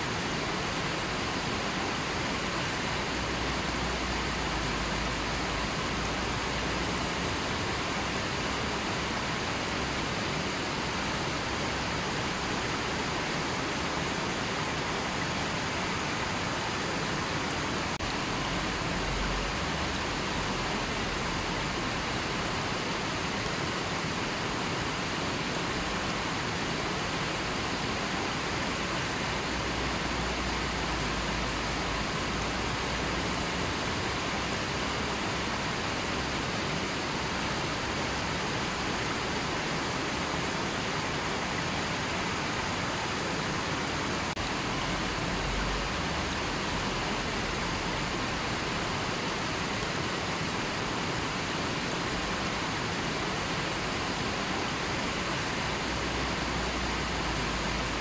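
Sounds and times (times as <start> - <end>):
river rushing over stones: 0.0 - 58.0.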